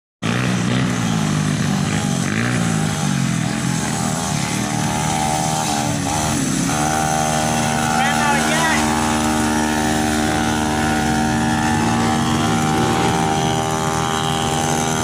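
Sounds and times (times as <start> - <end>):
pit bike engine revving: 0.2 - 15.0.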